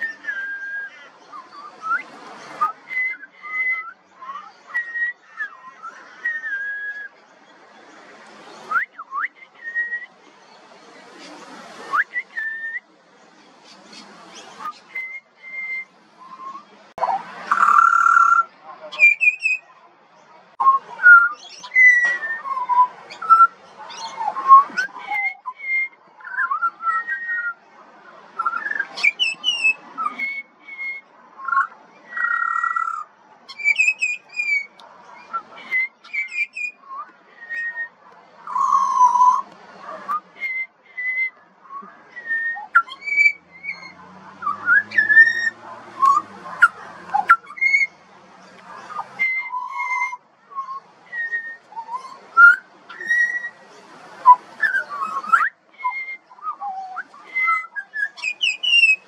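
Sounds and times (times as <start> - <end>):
bird whistling song: 0.0 - 7.2, 8.5 - 10.2, 11.8 - 12.9, 13.6 - 19.7, 20.6 - 27.6, 28.4 - 48.0, 48.8 - 59.0.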